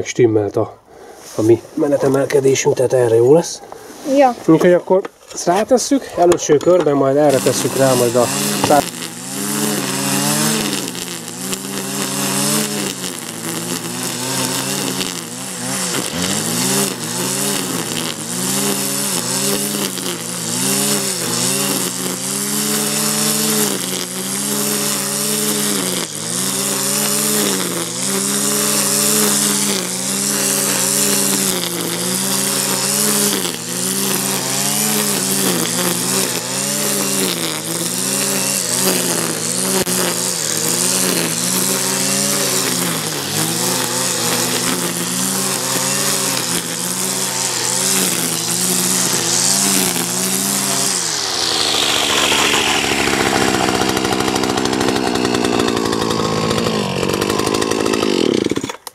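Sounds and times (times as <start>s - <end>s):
brushcutter engine at high revs: 1.0s - 58.9s
line whipping grass stems: 7.2s - 55.9s.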